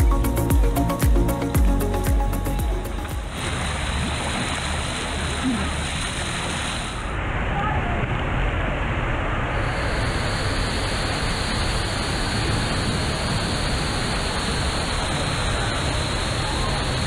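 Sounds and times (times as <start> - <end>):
waterfall pouring into pool: 2.9 - 17.0.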